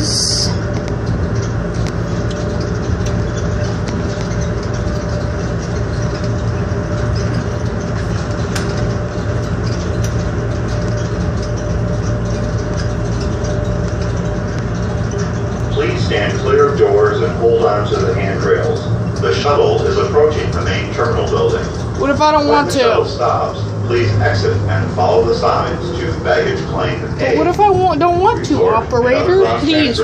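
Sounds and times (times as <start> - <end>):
shuttle train hum and whine: 0.0 - 30.0.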